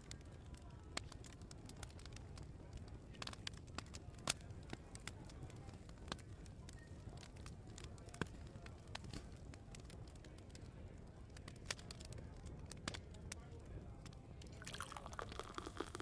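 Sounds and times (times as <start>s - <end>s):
wood fire crackling: 0.0s - 13.4s, 14.0s - 16.0s.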